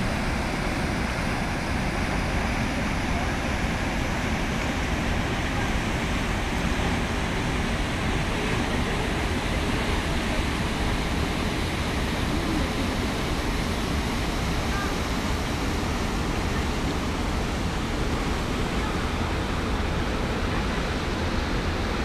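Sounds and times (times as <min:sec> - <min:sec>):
waterfall rushing: 0:00.0 - 0:22.0
white-water rapids: 0:00.0 - 0:22.0.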